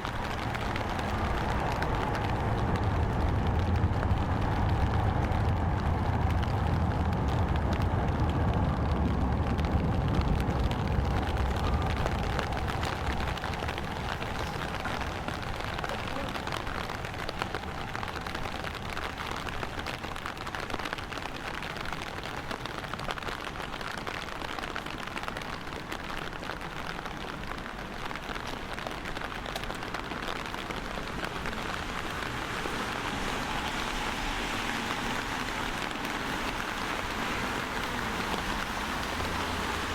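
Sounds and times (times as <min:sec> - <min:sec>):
passing vehicle rumble: 0:00.0 - 0:23.0, 0:26.6 - 0:39.9
rain pattering: 0:00.0 - 0:39.9.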